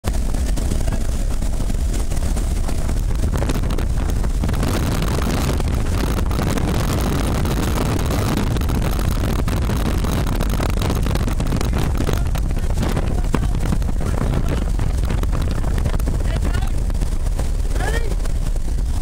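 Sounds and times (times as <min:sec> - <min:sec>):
plane engine drone: 0:00.0 - 0:19.0
wind buffeting microphone: 0:00.0 - 0:19.0
wind rushing: 0:00.0 - 0:19.0.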